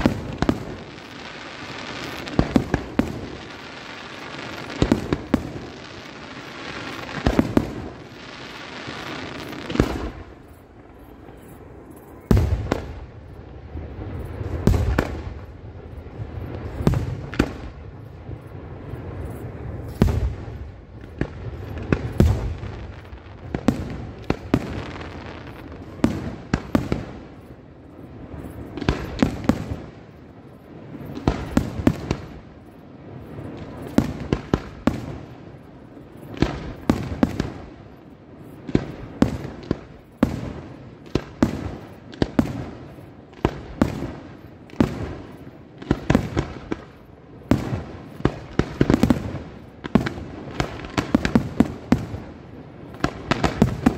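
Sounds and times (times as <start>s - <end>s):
firework bangs: 0.0s - 30.1s, 30.8s - 53.9s.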